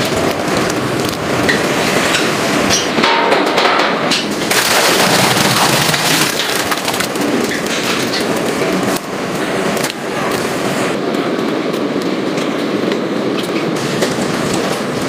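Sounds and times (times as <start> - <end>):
factory clattering and crackling: 0.0 - 15.0.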